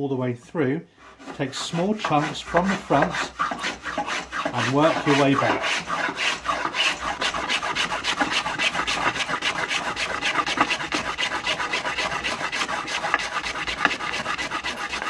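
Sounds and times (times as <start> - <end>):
plane cutting wood: 1.0 - 15.0.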